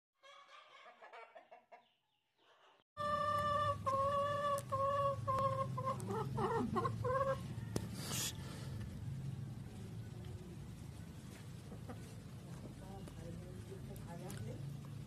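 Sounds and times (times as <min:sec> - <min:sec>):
chickens calling: 0:00.2 - 0:12.9.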